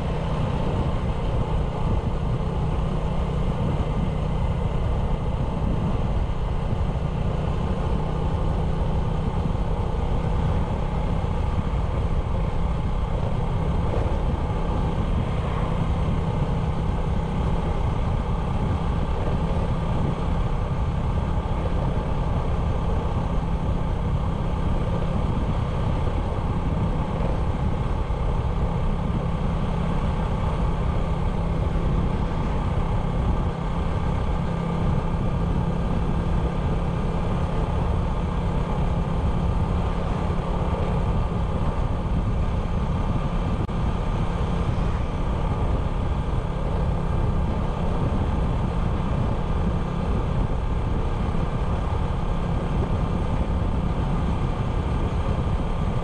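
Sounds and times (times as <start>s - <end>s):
motorbike engine droning: 0.0s - 56.0s.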